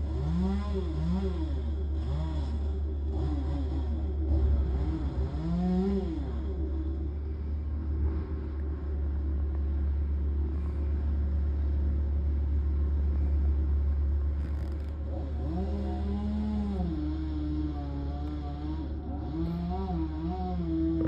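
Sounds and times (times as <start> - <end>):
chipper engine rumbling: 0.0 - 21.0.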